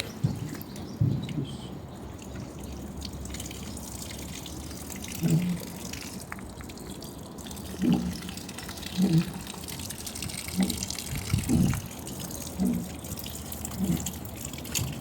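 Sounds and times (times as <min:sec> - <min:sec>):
water dripping and trickling: 0:00.0 - 0:15.0.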